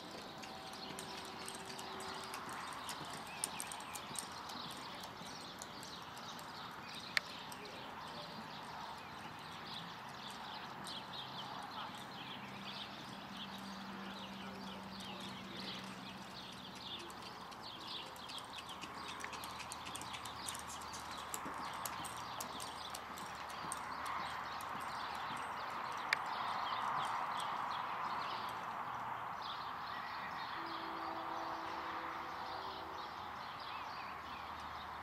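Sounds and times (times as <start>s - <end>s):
horse hoofbeats on dirt: 0.0s - 28.8s.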